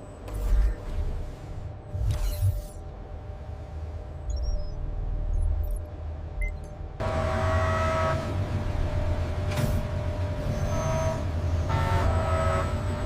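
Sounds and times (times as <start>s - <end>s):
industrial machinery humming: 0.0s - 13.0s.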